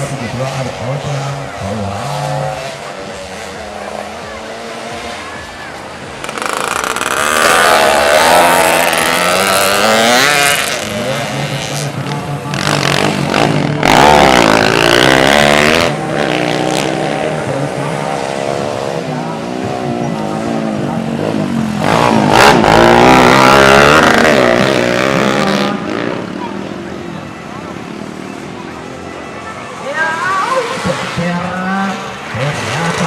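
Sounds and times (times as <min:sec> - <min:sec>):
racing motorcycles revving: 0:00.0 - 0:33.0.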